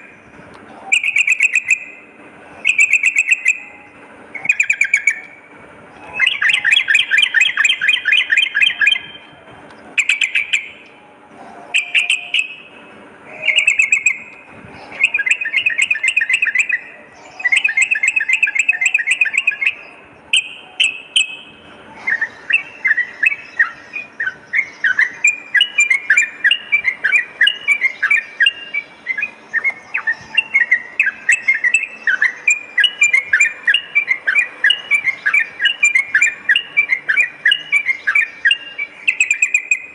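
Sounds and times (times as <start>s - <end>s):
bulbul trilled chattering song: 0.0s - 39.9s.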